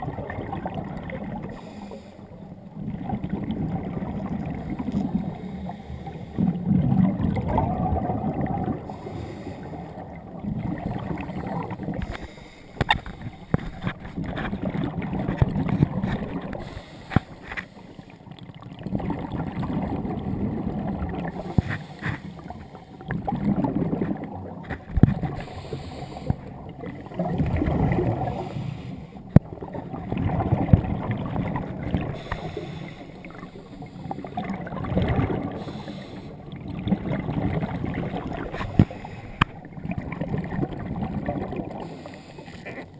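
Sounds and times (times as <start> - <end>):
underwater exhaled bubbles: 0.0 - 42.9.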